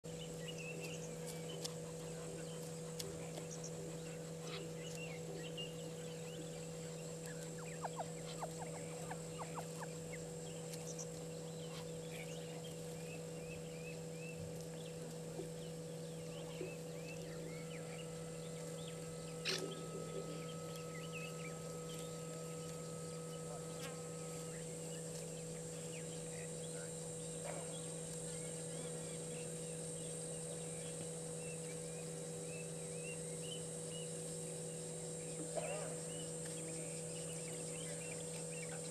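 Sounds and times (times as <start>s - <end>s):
electrical hum: 0.0s - 38.9s
bird chirps: 0.1s - 38.9s
insect ticks: 0.1s - 38.9s.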